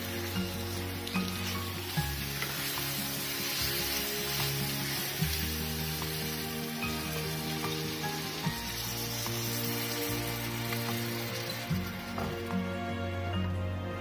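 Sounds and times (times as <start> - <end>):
curry sizzling in a pan: 0.0 - 12.8
background music: 0.0 - 14.0.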